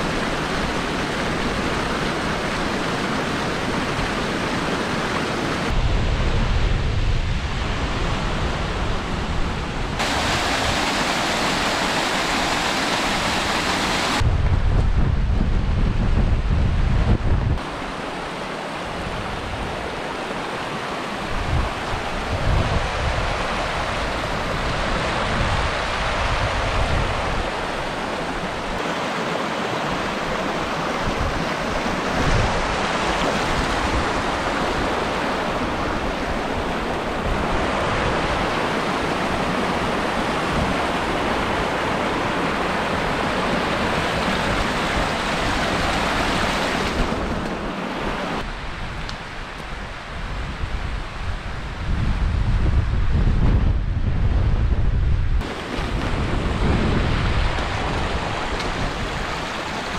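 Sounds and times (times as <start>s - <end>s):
rocky mountain stream rushing: 0.0s - 5.9s, 7.5s - 14.3s, 17.6s - 51.8s, 55.4s - 59.9s
gusty wind on microphone: 5.4s - 18.0s, 21.2s - 28.8s, 30.1s - 59.9s.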